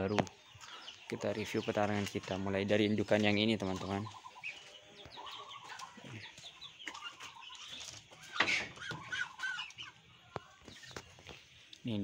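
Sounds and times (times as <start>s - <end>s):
poultry chirping and clucking: 0.0s - 12.0s.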